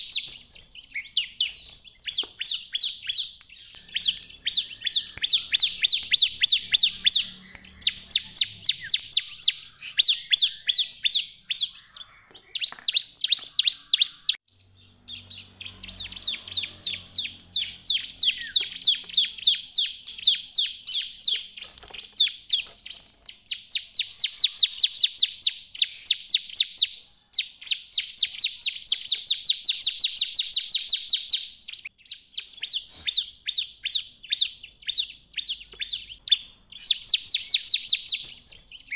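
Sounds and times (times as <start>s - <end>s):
bird singing rapid high chirps: 0.0s - 38.9s.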